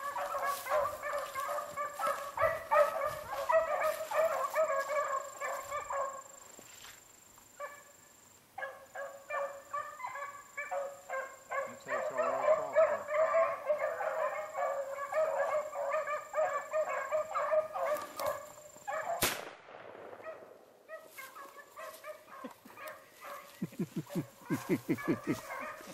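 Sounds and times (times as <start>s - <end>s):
dogs baying: 0.0s - 6.3s, 8.6s - 19.2s, 20.2s - 25.9s.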